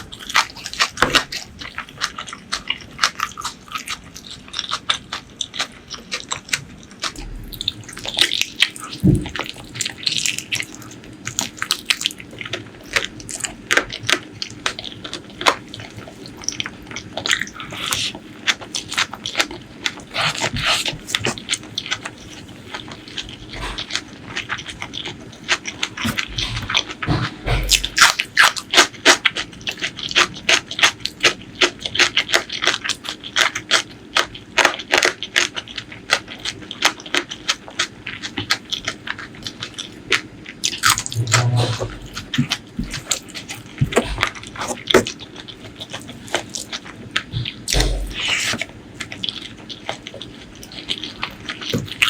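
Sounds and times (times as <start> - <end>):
wet chewing and lip smacking: 0.0 - 52.0.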